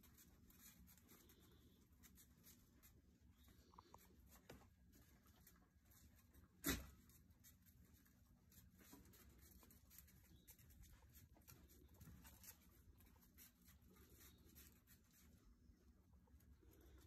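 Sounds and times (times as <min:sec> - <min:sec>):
puppy paws scratching on concrete: 0:00.0 - 0:17.0.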